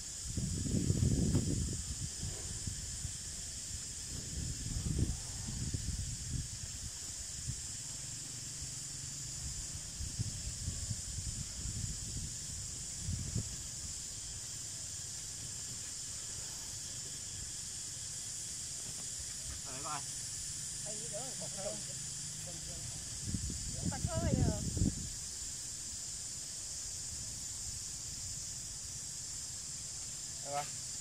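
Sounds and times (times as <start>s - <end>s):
steady high-pitched hiss: 0.0s - 31.0s.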